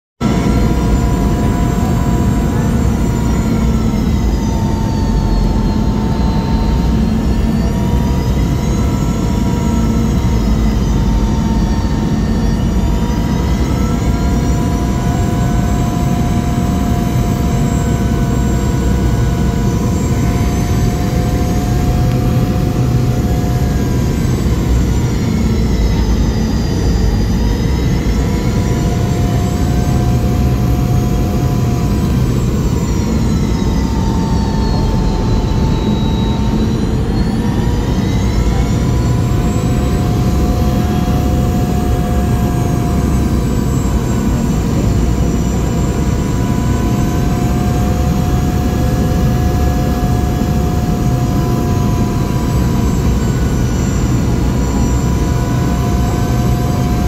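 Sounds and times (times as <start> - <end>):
jet engine roar with whine: 0.2 - 57.0.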